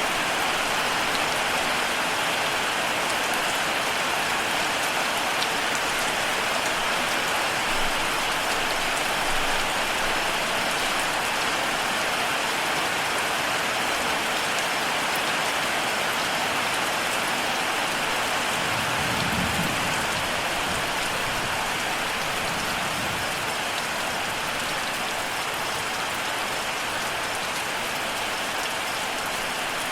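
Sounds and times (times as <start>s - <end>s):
heavy rain falling: 0.0s - 29.9s.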